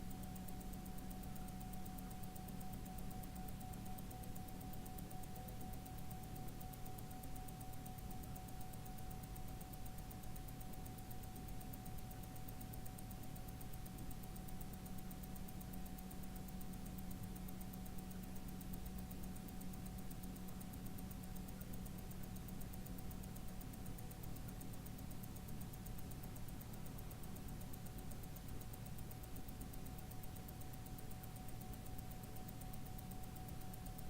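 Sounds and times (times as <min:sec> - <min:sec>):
faint steady hum: 0:00.0 - 0:34.0
watch ticking: 0:00.0 - 0:34.0.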